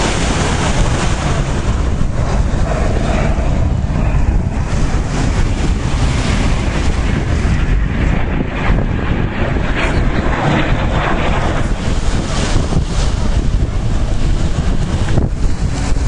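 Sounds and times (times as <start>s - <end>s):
jet engines flying past: 0.0s - 16.0s
wind rumble on microphone: 0.0s - 16.0s.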